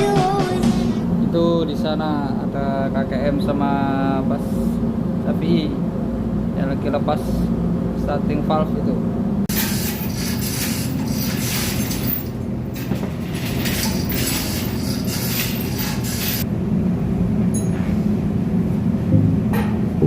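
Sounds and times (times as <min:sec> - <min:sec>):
engine-room machinery drone: 0:00.0 - 0:20.0.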